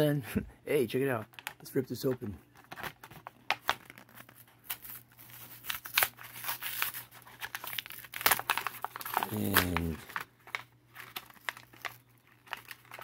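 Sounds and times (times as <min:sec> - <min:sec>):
plastic crinkling and card tearing: 0:01.3 - 0:13.0
sharp plastic crackles and snaps: 0:01.3 - 0:13.0.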